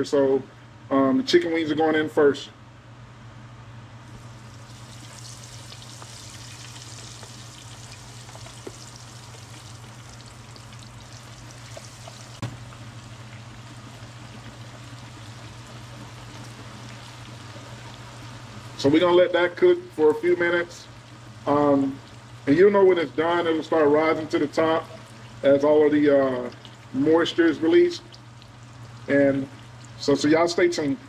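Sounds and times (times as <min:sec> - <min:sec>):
constant low hum: 0:00.0 - 0:31.0
fat sizzling while deep-frying: 0:04.0 - 0:30.9.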